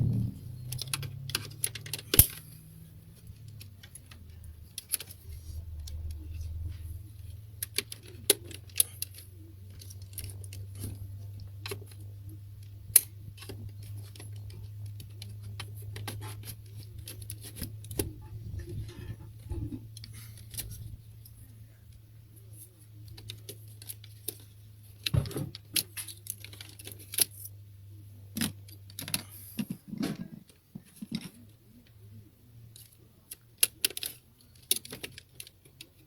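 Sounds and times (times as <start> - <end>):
steady low hum: 0.0 - 34.5.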